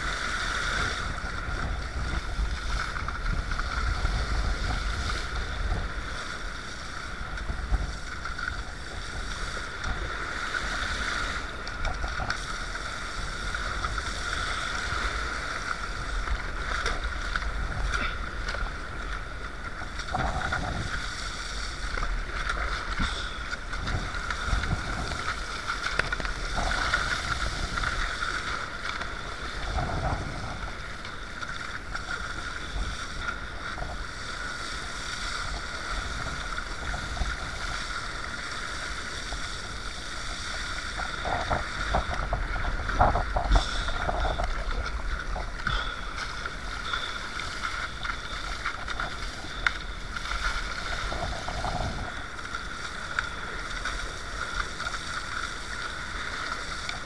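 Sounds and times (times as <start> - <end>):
wind buffeting microphone: 0.0 - 54.3
water slapping kayak hull: 0.0 - 57.0.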